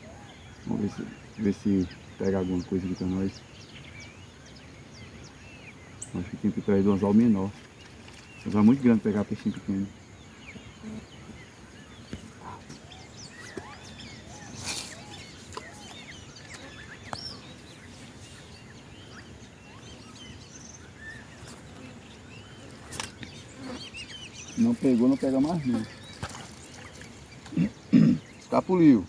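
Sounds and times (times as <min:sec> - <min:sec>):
birds chirping and whistling: 0:00.0 - 0:29.0.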